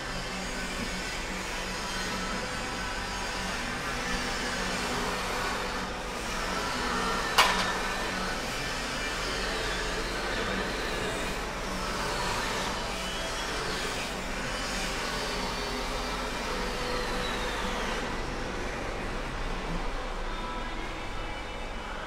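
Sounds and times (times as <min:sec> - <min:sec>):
radiator fan whooshing: 0:00.0 - 0:22.0.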